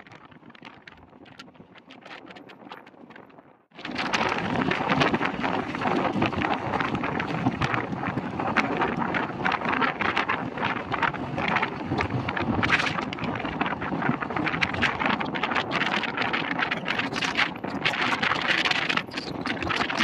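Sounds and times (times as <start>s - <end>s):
small clicks and rattles: 0.0s - 20.0s
wind buffeting the microphone: 0.0s - 20.0s.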